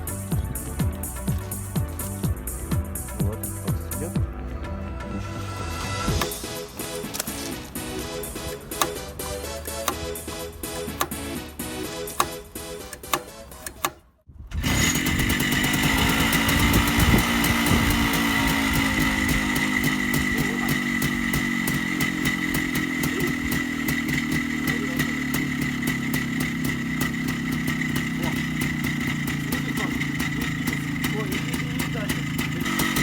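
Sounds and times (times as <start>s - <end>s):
motorcycle engine idling: 0.0s - 4.8s, 6.0s - 13.1s, 14.6s - 33.0s.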